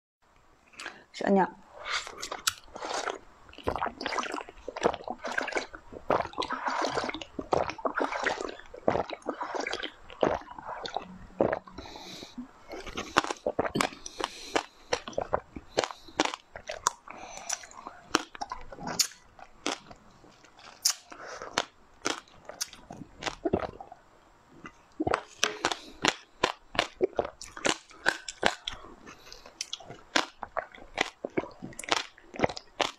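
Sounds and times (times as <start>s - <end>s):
person sucking dessert from tubes: 1.7s - 24.0s, 24.9s - 32.9s
wet chewing clicks and smacks: 2.0s - 24.0s, 24.6s - 32.9s.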